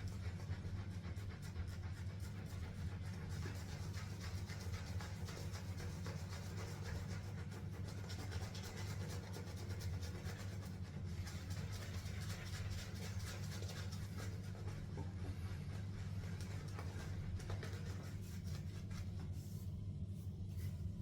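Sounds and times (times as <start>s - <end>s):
shaving brush scrubbing lather: 0.0s - 21.0s
steady low hum: 0.0s - 21.0s.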